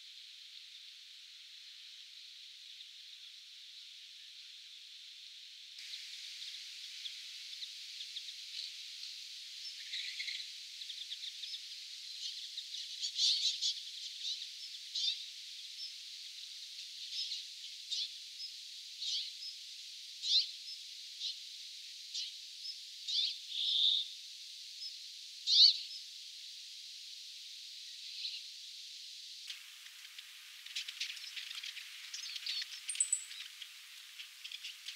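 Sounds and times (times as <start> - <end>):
steady hiss: 0.0 - 34.9.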